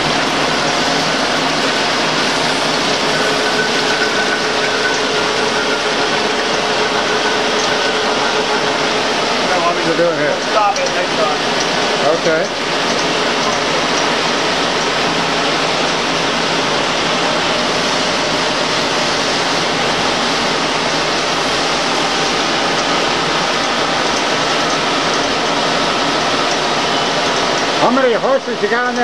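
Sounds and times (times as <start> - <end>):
lathe running: 0.0 - 29.0.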